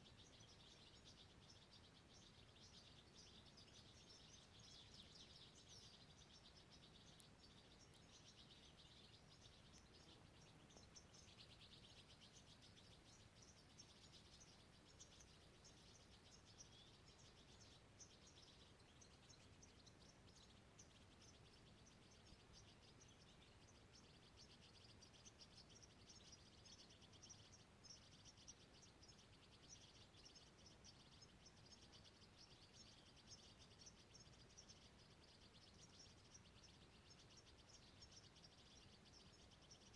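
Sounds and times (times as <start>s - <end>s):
low background hiss: 0.0s - 39.9s.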